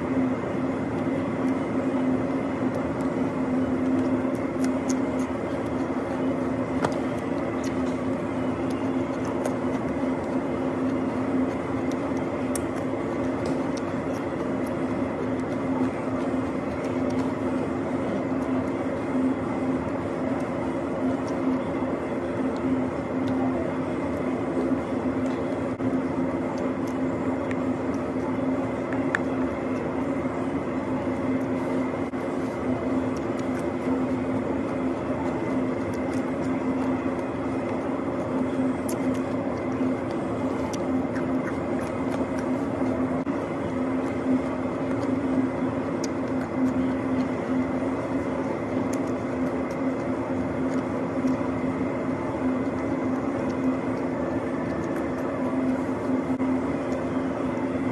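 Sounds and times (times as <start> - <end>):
machinery drone with low hum: 0.0 - 57.9.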